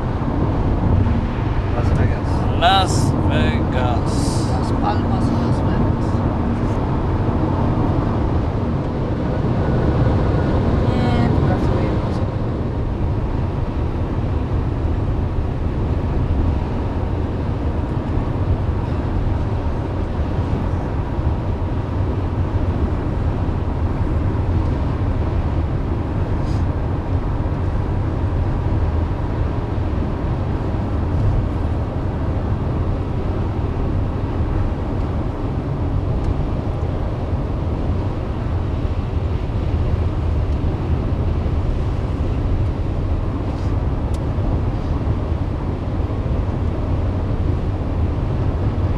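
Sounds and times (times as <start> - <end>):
car driving road noise: 0.0 - 48.9.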